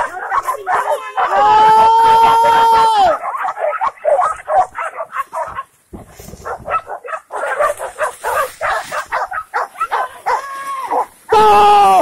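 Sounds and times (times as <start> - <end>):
dogs barking and yelping: 0.0 - 11.4.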